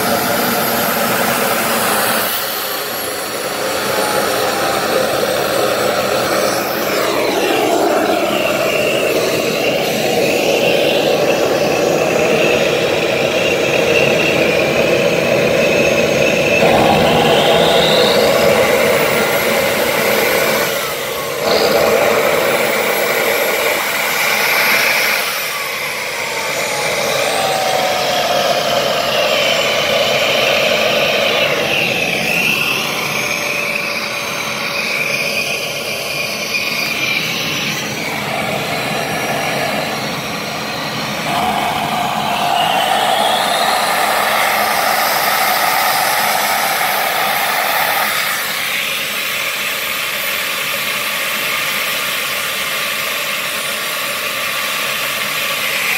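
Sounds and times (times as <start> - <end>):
turbine whine: 0.0 - 55.9
turbojet engine roaring: 0.0 - 55.9.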